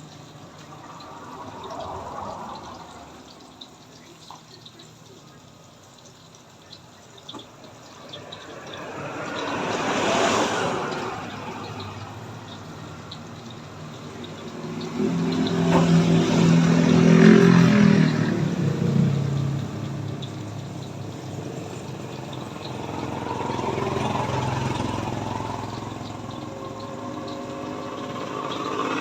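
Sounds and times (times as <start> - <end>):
vehicle engine passing by: 0.2 - 4.0, 7.5 - 29.0.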